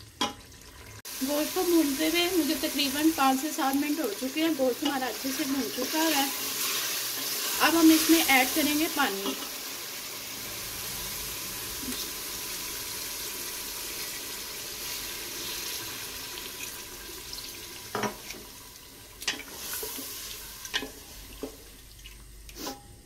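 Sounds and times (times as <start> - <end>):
water pouring into a pot: 0.3 - 22.3.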